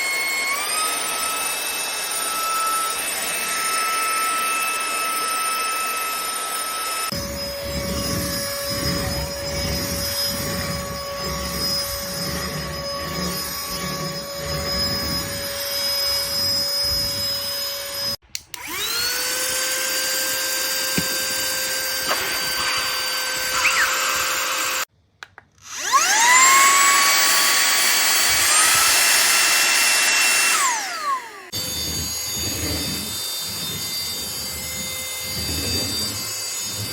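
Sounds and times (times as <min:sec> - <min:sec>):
vacuum cleaner motor whining: 0:00.0 - 0:24.9, 0:25.6 - 0:36.9.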